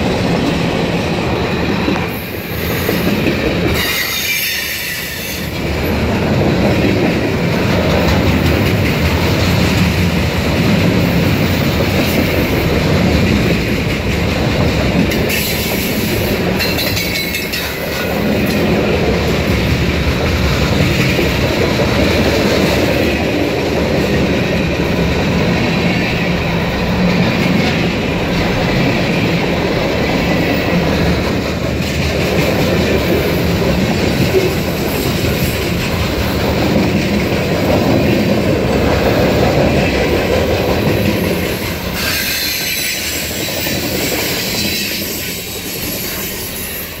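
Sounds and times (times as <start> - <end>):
freight train wheels clacking: 0.0 - 47.0.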